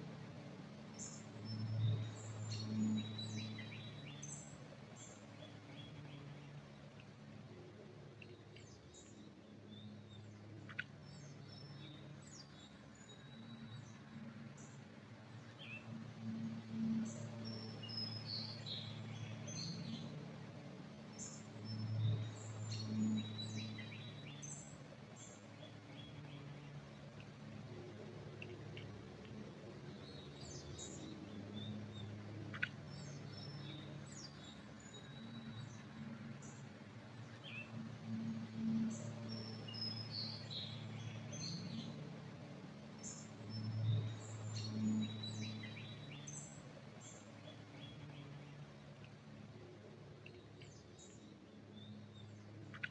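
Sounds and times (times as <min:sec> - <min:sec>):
low steady hum: 0:00.0 - 0:52.9
songbirds chirping: 0:00.0 - 0:52.9.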